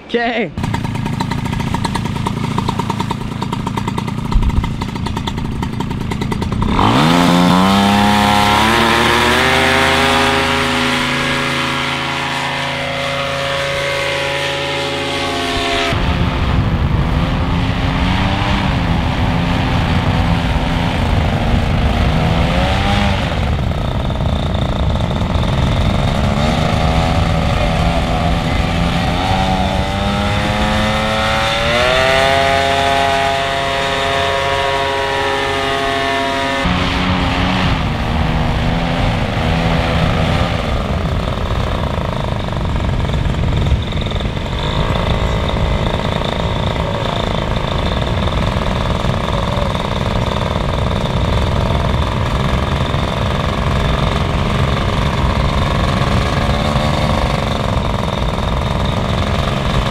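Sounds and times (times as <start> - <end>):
paramotor engine: 0.5 - 59.9.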